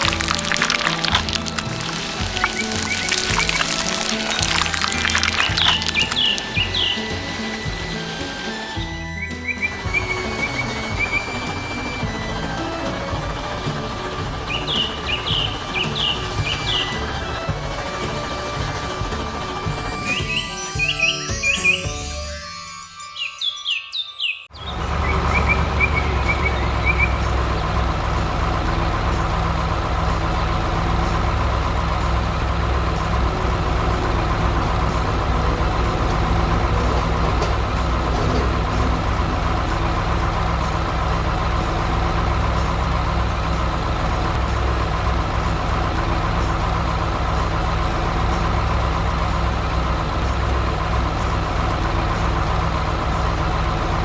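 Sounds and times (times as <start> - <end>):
diesel engine running: 0.0 - 21.9, 24.5 - 54.0
high chirps: 0.0 - 54.0.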